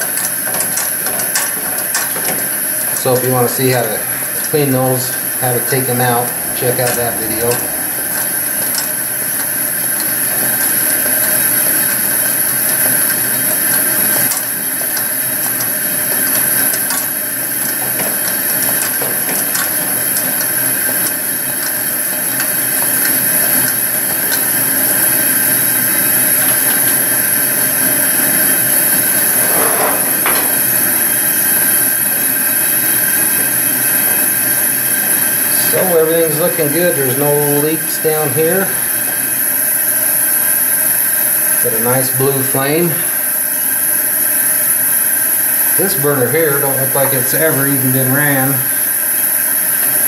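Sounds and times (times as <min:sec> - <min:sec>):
camp stove burner hissing roar: 0:00.0 - 0:50.0.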